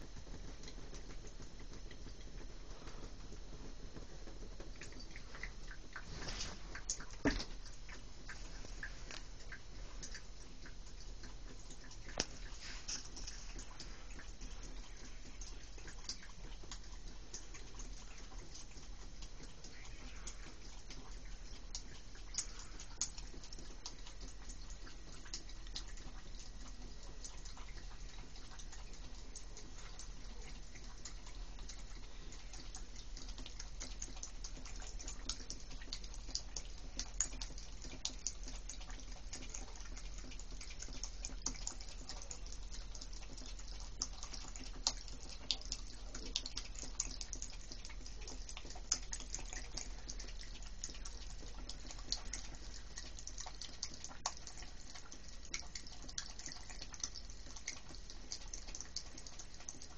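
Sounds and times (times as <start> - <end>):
water dripping from shower head: 0.0 - 59.9.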